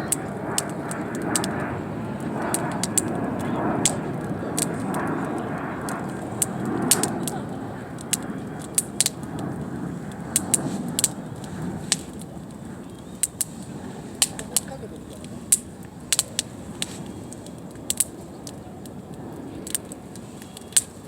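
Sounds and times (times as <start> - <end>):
campfire crackling and popping: 0.0 - 21.0
steady rushing noise: 0.0 - 21.0.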